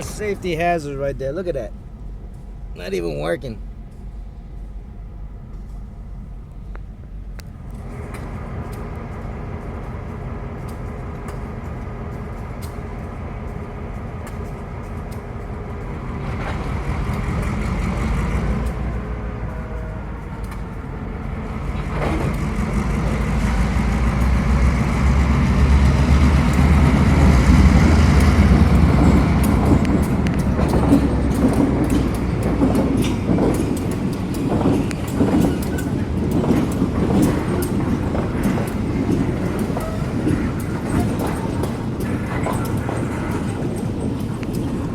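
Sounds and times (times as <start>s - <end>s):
train rumble: 0.0s - 44.9s
train wheels clicking and knocking: 0.0s - 44.9s.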